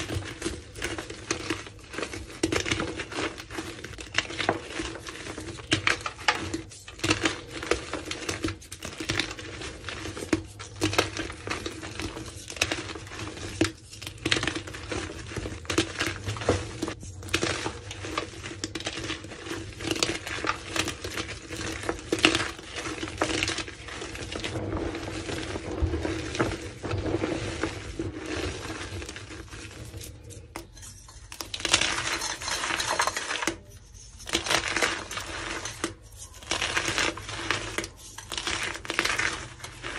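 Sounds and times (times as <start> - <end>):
chalk crumbling and crunching: 0.0 - 39.9.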